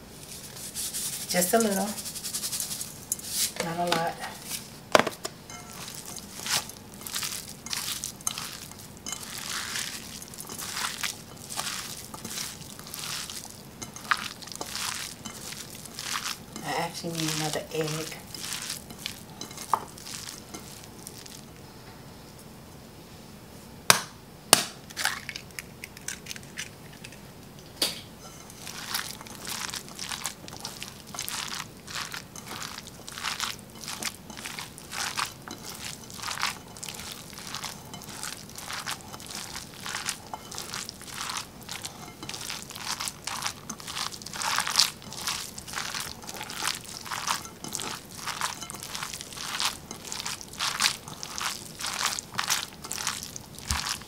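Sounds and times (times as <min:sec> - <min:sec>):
hands squishing wet mix: 0:00.0 - 0:21.5, 0:28.4 - 0:54.0.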